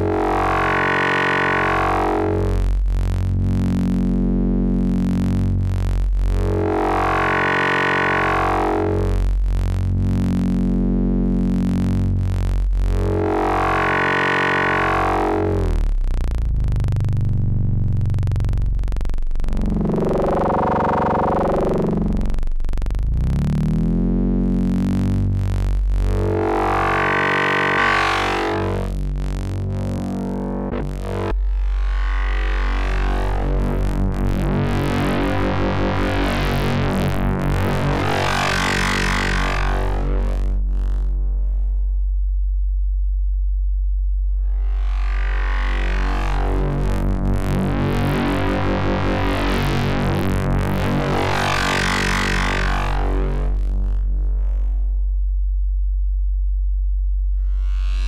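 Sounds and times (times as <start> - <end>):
low sustained synthesizer note: 0.0 - 58.0.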